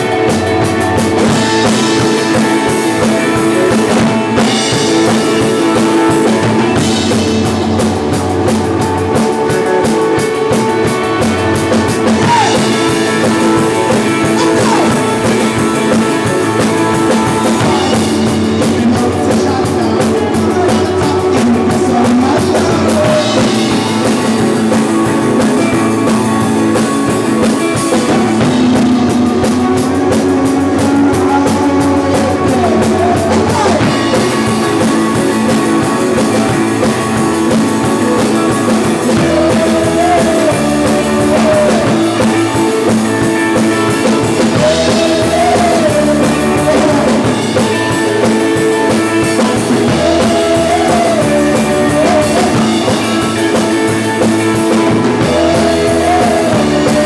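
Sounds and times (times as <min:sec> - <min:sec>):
drum kit: 0:00.0 - 0:57.0
electric bass: 0:00.0 - 0:57.0
electric guitar: 0:00.0 - 0:57.0.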